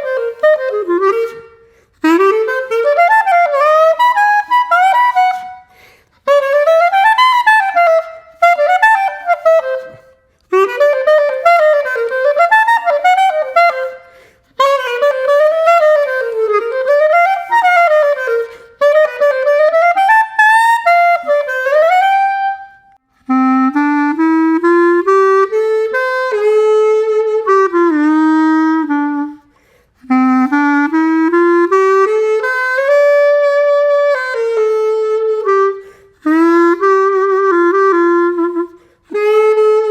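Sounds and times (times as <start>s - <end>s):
squeaky clarinet playing: 0.0s - 39.9s.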